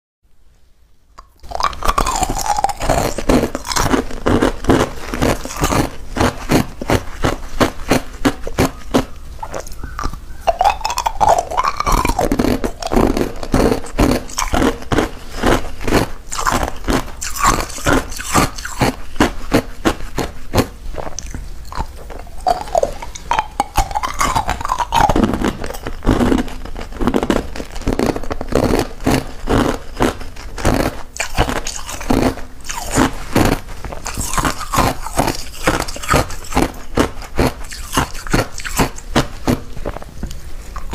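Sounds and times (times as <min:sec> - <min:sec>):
ice cubes crunching: 0:01.2 - 0:40.0.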